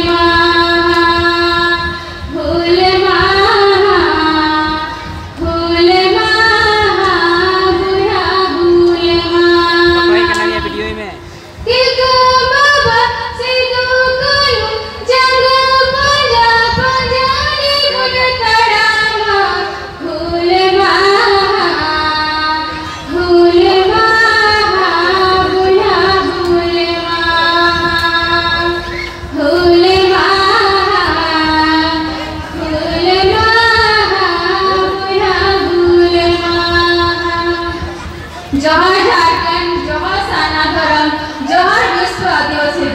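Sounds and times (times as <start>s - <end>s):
woman singing into microphone: 0.0s - 42.9s.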